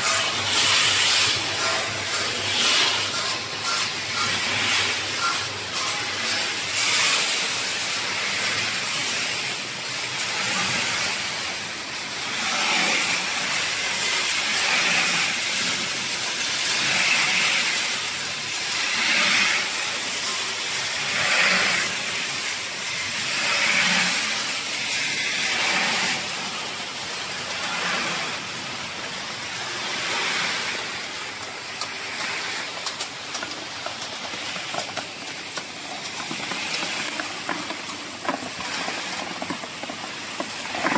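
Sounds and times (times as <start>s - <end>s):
production line machinery hiss and rumble: 0.0s - 40.9s.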